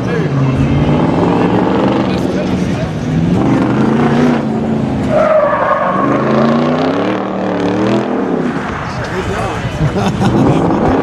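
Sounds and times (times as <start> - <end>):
vehicle engine revving: 0.0 - 11.0
tires squealing: 0.2 - 11.0.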